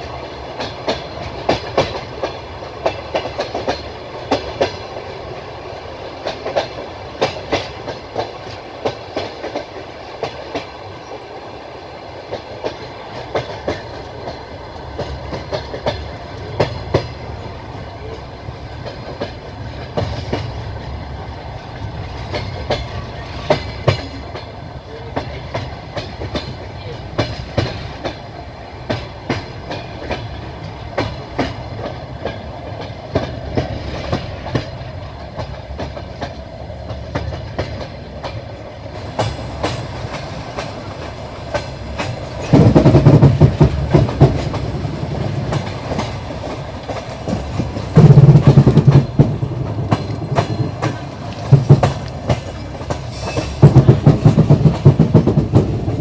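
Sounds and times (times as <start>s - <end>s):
train rolling rumble: 0.0s - 56.0s
train wheels clacking over rail joints: 0.0s - 56.0s.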